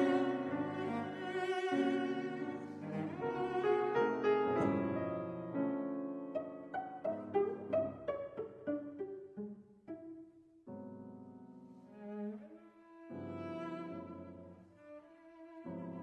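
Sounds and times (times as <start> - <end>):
bowed cello: 0.0 - 10.4, 11.8 - 16.0
piano: 0.0 - 16.0.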